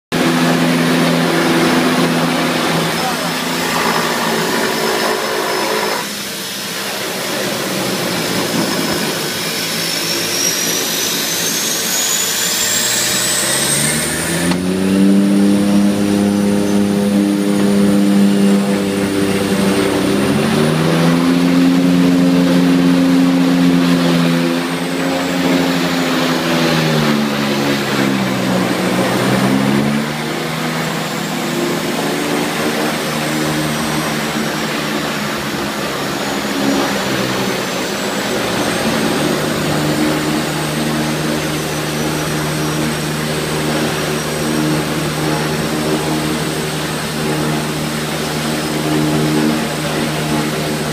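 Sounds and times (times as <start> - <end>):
propeller drone: 0.1 - 50.9
turbine whine: 0.1 - 50.9.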